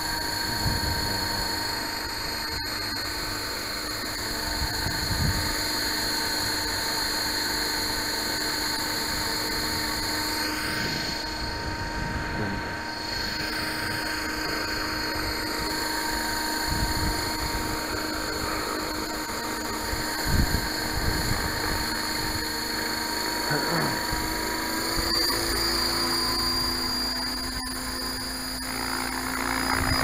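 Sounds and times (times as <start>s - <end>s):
rc helicopter whine: 0.0s - 30.0s.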